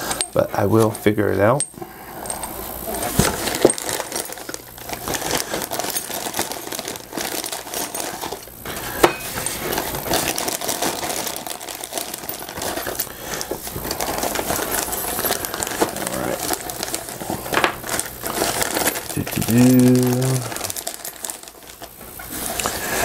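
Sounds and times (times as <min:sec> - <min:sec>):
small metal parts clinking: 0:00.0 - 0:22.7
plastic bag crinkling: 0:00.0 - 0:23.0.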